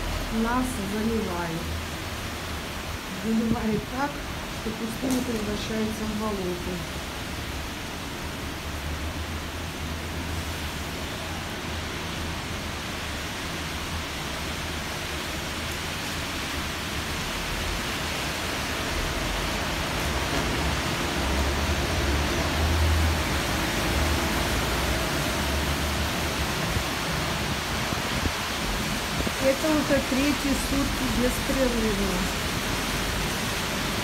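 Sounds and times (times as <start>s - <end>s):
heavy rain on street: 0.0s - 34.0s.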